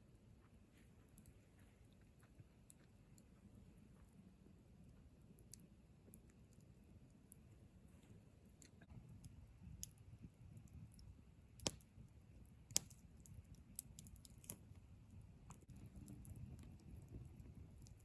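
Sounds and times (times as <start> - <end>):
campfire crackling and popping: 2.2 - 18.0.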